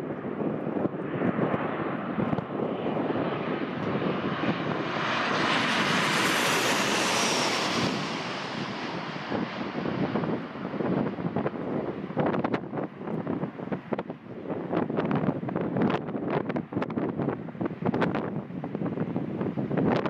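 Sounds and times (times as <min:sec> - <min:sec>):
jet airliner passing overhead: 0:00.0 - 0:19.9
wind buffeting microphone: 0:00.0 - 0:20.0.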